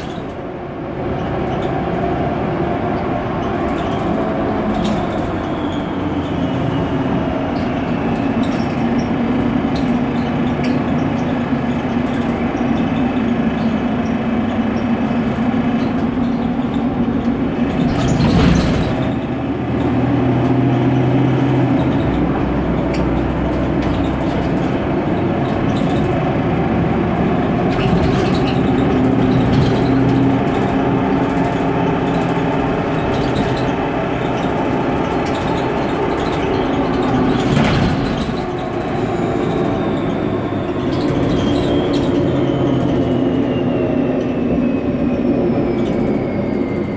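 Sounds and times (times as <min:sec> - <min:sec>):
bus engine droning: 0:00.0 - 0:46.9
road and cabin noise: 0:00.0 - 0:46.9.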